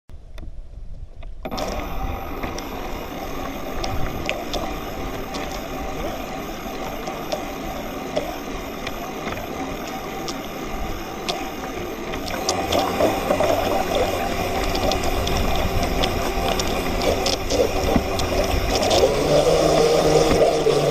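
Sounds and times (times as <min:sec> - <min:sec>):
model boat drive whirring: 0:01.4 - 0:20.9
water washing against hull: 0:01.4 - 0:20.9.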